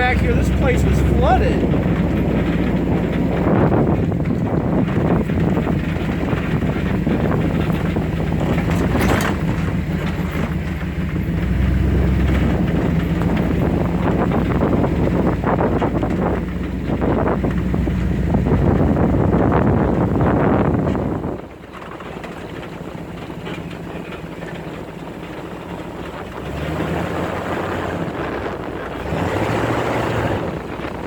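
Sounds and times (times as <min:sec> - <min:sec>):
truck engine running: 0:00.0 - 0:31.0
vehicle body knocking and rattling: 0:00.0 - 0:31.0.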